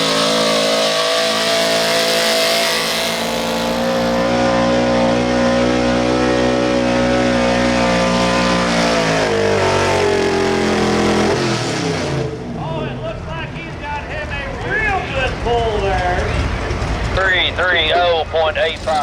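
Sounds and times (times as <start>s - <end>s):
truck engine revving hard: 0.0s - 17.9s.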